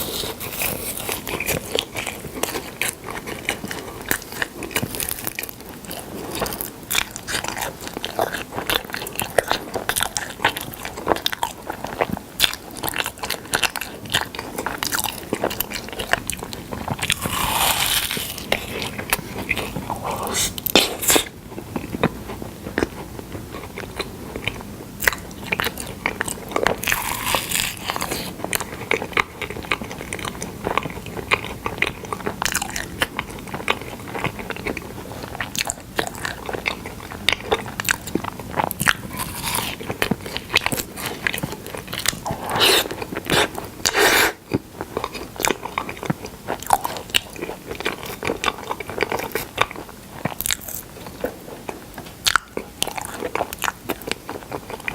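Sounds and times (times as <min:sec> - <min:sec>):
chewing and crunching: 0:00.0 - 0:54.9.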